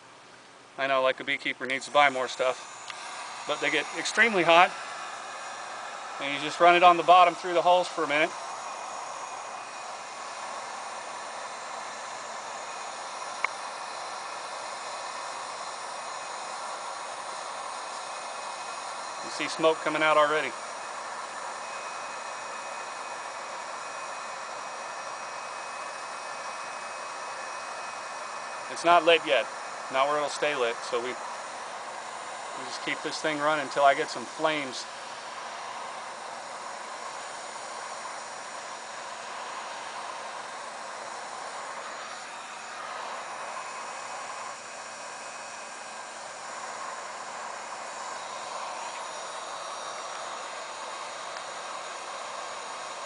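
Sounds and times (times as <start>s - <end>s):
high fan whine: 0.0s - 53.0s
hot air gun blowing: 1.4s - 53.0s.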